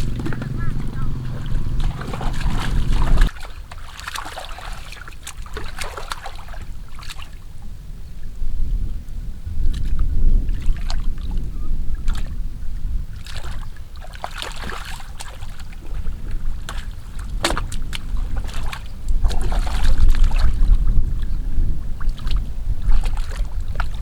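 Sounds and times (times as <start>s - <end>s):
water sloshing and splashing: 0.0s - 7.6s, 9.6s - 24.0s
wind buffeting microphone: 0.0s - 24.0s.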